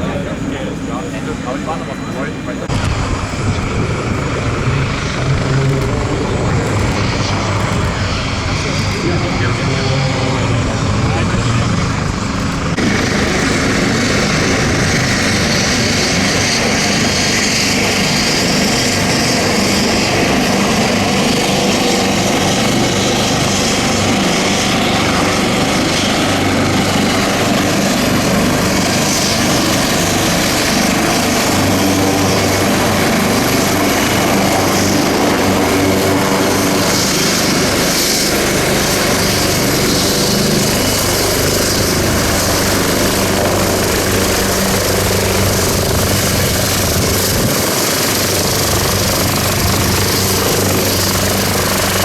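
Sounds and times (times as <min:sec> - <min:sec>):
helicopter rotor and turbines: 0:00.0 - 0:52.0.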